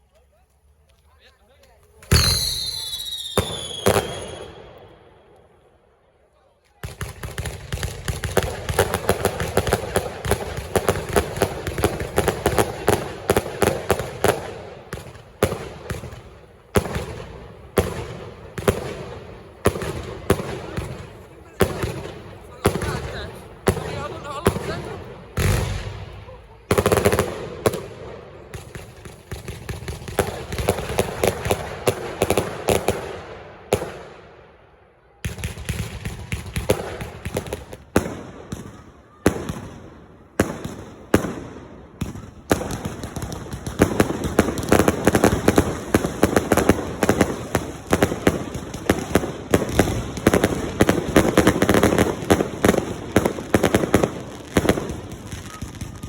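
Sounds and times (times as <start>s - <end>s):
fireworks bangs and crackles: 0.1s - 5.8s, 6.5s - 56.0s.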